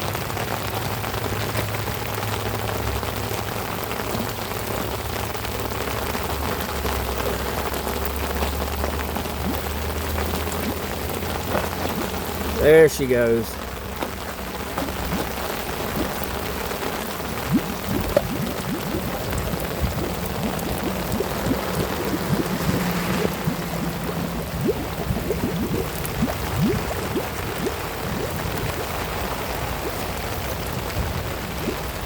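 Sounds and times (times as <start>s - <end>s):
rain falling on water: 0.0s - 32.0s
water gurgling down a drain: 0.0s - 32.0s.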